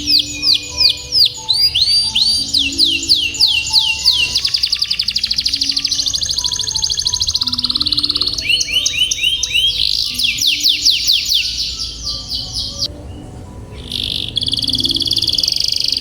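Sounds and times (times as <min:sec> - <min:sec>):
canary singing: 0:00.0 - 0:16.0
soft background music: 0:00.0 - 0:16.0.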